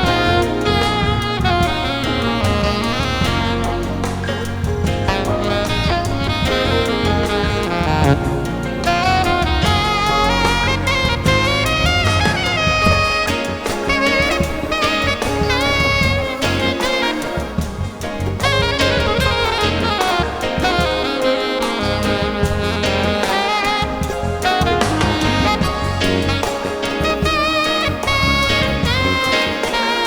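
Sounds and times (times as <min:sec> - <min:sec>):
live jazz band playing: 0:00.0 - 0:30.0.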